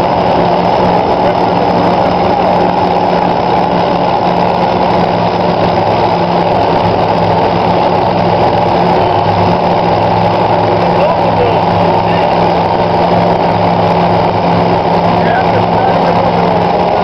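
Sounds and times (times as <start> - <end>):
car engines idling loudly: 0.0 - 17.0.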